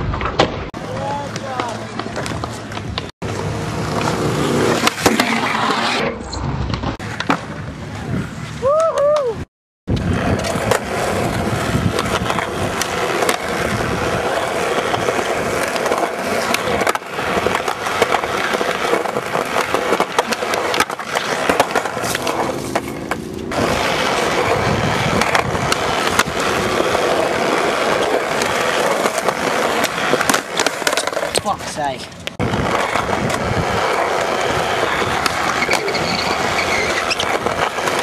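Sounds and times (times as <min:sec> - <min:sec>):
skateboard wheels rolling on concrete: 0:00.0 - 0:38.0
skateboard clacking: 0:00.1 - 0:05.9, 0:08.8 - 0:38.0.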